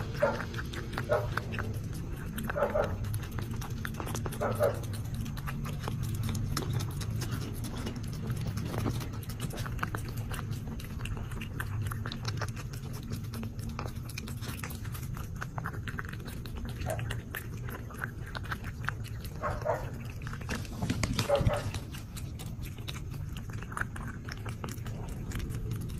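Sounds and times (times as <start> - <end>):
cat chewing and licking: 0.0 - 25.9
steady low hum: 0.0 - 25.9.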